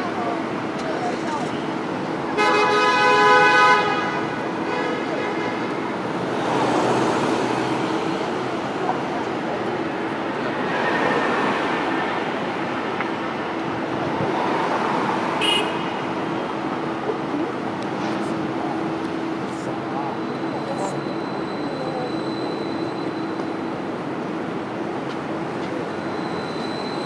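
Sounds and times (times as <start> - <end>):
city traffic noise: 0.0 - 27.0
tram rolling on street track: 0.0 - 27.0.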